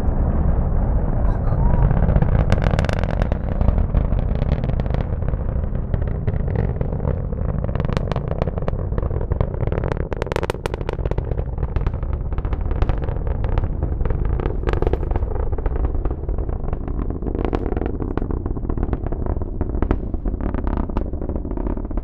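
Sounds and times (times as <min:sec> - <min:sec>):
distant rocket engine rumble: 0:00.0 - 0:22.0.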